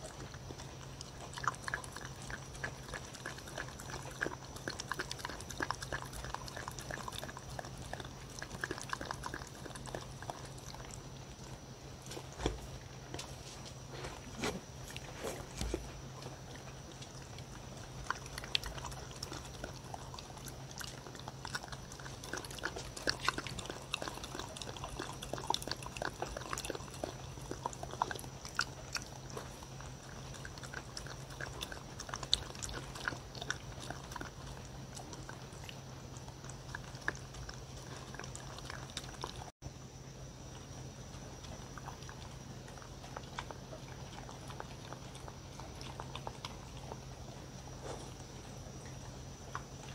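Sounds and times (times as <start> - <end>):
dog licking and slurping: 0.0 - 39.6, 41.2 - 49.9.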